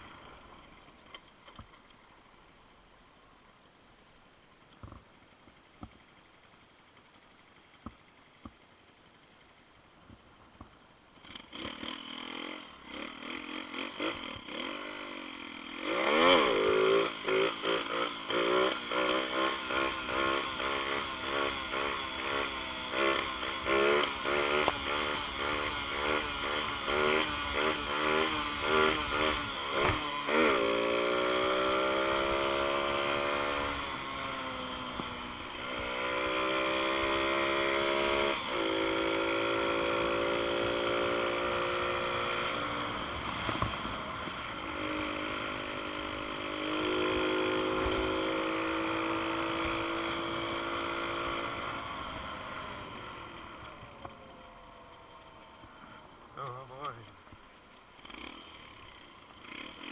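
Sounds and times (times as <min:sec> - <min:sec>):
pit bike engine revving: 0:11.2 - 0:59.9.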